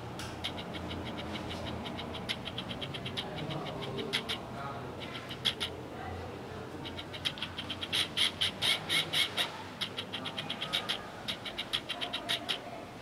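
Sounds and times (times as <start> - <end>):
steady low hum: 0.0 - 13.0
high-pitched animal chirps: 0.4 - 5.8, 6.8 - 12.6.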